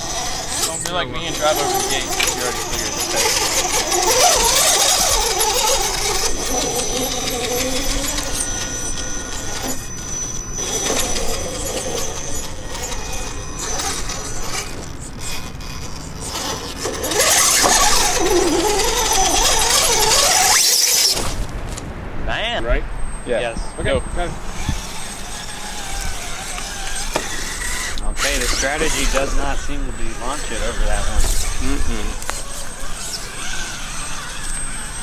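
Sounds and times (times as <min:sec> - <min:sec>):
electric motor whining: 0:00.0 - 0:21.5, 0:23.1 - 0:35.0.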